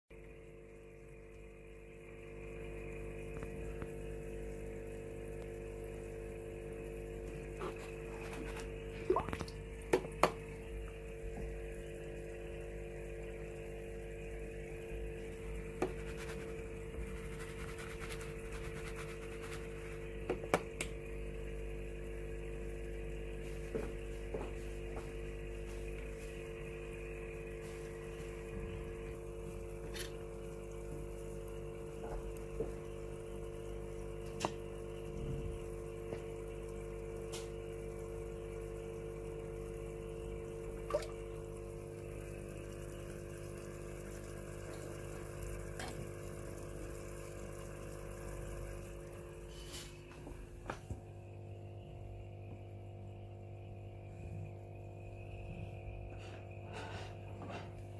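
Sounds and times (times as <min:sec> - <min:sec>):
steady electrical hum: 0:00.2 - 0:57.9
water trickling: 0:00.9 - 0:24.8, 0:25.6 - 0:49.8.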